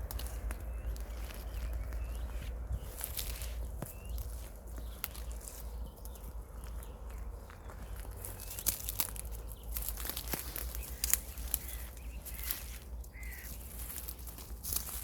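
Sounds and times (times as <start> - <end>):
low steady rumble: 0.0 - 15.0
rustling and crackling footsteps: 0.0 - 15.0
faint bird chirps: 0.5 - 14.2.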